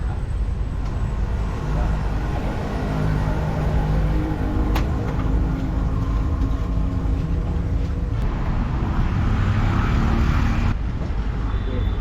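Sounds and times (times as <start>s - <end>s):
engine humming: 0.0s - 10.8s.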